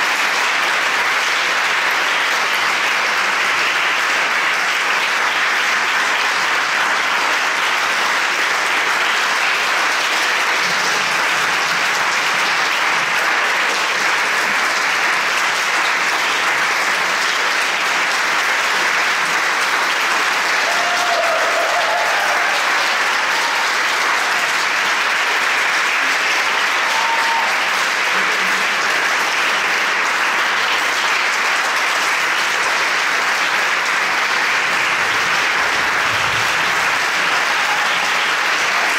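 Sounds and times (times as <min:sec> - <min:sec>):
audience applause: 0:00.0 - 0:38.9.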